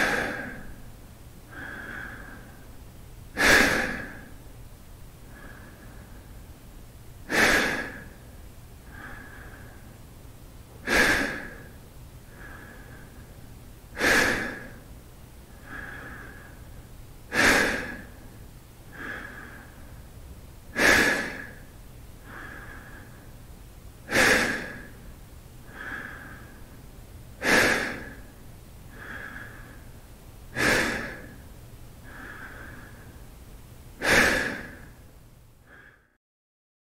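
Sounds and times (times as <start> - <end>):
man breathing deeply: 0.0 - 4.6, 5.2 - 36.2.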